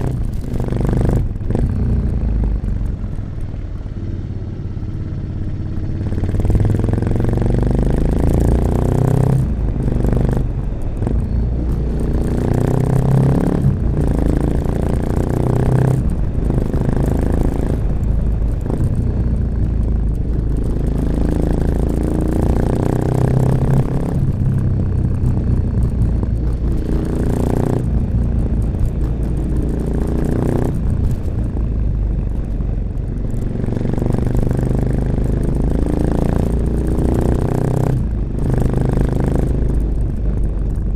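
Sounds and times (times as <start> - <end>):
motorcycle engine under load: 0.0 - 40.9.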